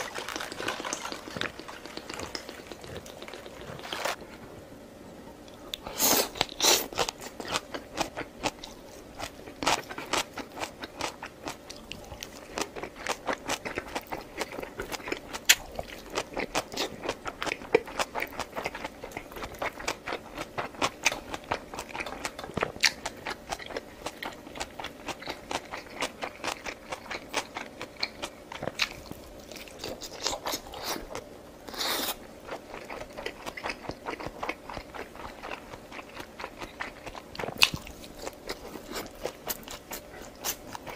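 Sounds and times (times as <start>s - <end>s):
person chewing crunchy food: 0.0s - 4.4s, 5.5s - 40.9s.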